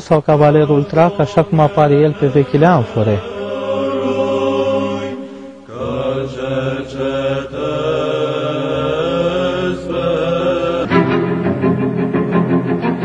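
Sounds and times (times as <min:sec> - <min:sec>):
slow chanting on held notes: 0:00.2 - 0:11.6.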